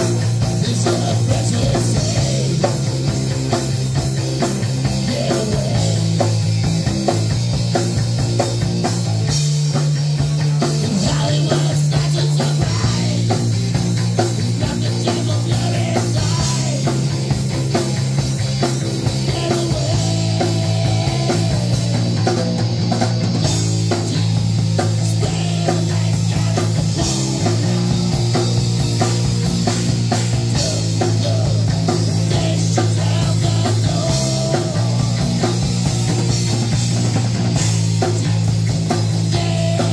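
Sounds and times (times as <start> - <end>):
bass guitar line: 0.0 - 39.9
electric guitar: 0.0 - 39.9.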